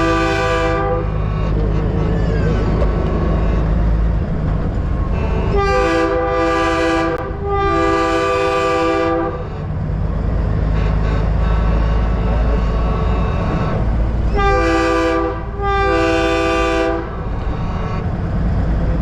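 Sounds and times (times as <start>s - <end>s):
diesel engine rumbling: 0.0s - 19.0s
truck train horn blasts: 0.0s - 19.0s.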